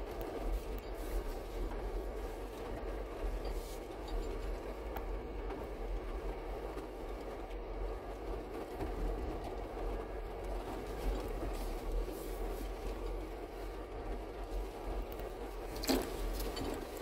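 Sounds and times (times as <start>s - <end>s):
faint clicks and rattles: 0.0s - 17.0s
vehicle rumbling over gravel: 0.0s - 17.0s.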